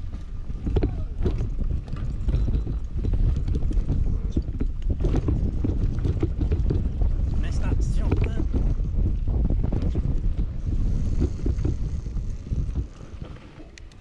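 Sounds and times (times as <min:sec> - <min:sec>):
bike rattles and knocks: 0:00.0 - 0:14.0
bike rolling rumble on dirt trail: 0:00.0 - 0:14.0.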